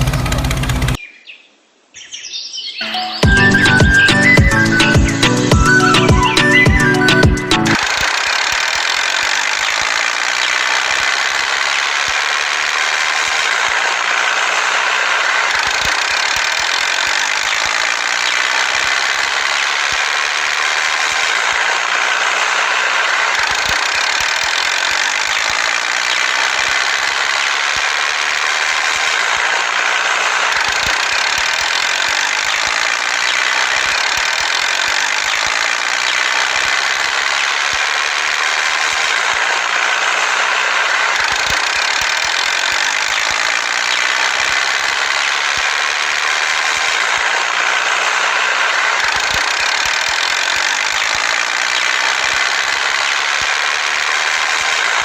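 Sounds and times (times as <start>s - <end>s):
small motor buzzing whir: 3.6s - 55.0s.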